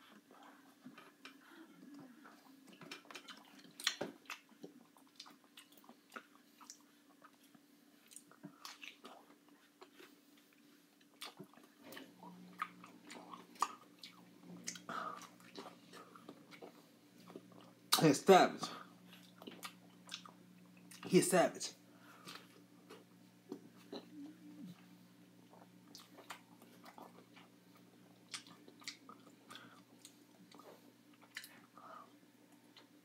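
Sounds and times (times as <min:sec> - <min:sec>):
person chewing fruit: 0:00.0 - 0:21.1, 0:21.9 - 0:33.0
faint low hum: 0:00.0 - 0:33.0.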